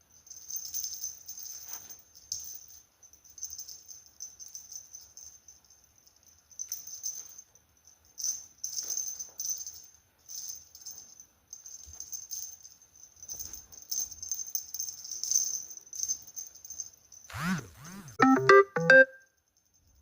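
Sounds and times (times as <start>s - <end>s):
cat toy rattling and jingling: 0.0s - 17.3s.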